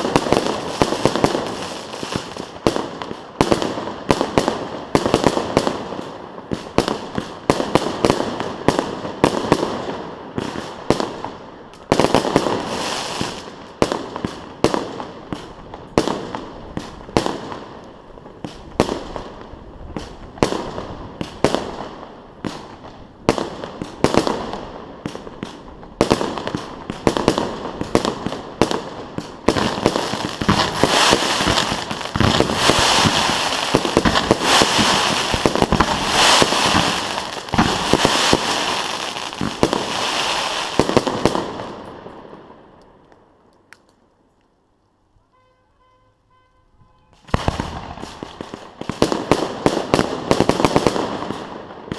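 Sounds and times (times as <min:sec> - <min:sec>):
fireworks bangs: 0:00.0 - 0:42.7, 0:47.0 - 0:51.9
fireworks crackling: 0:00.0 - 0:43.9, 0:47.1 - 0:51.9.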